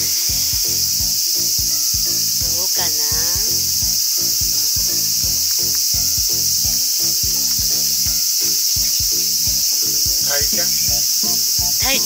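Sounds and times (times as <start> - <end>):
insects chirping: 0.0 - 12.0
music with steady beat: 0.0 - 12.0.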